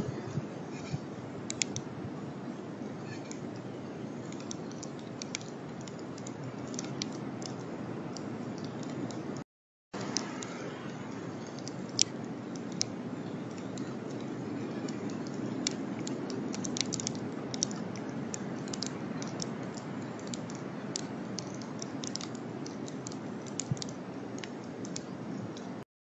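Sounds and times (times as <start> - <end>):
steady low hiss: 0.0 - 9.4, 10.0 - 25.8
sharp clicks and ticks: 0.8 - 1.9, 3.2 - 9.4, 10.0 - 25.8.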